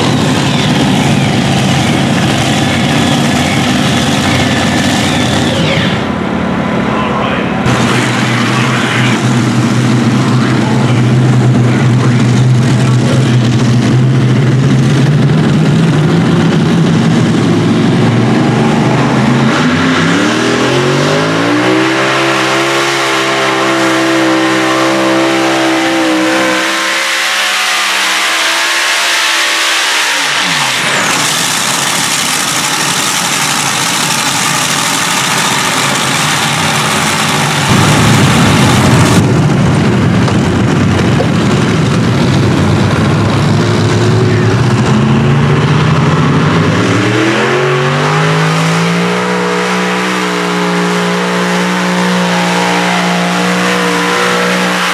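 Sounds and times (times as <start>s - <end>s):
deeper engine note: 0.0s - 28.6s, 30.3s - 54.9s
tractor engine revving: 0.0s - 54.9s.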